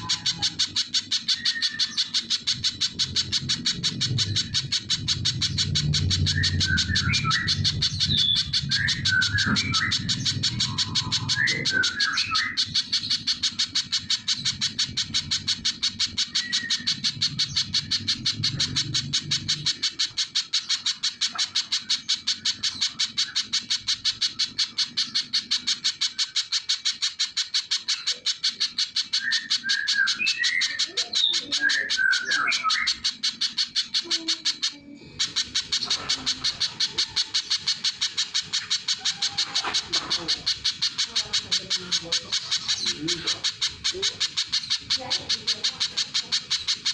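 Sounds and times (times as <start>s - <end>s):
bird singing sharp high notes: 0.0s - 46.9s
soft bird chirps: 0.0s - 46.9s.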